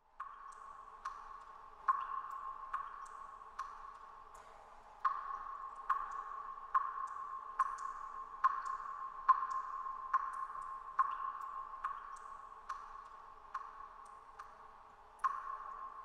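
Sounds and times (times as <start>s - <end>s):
water dripping in a cave: 0.0s - 16.0s.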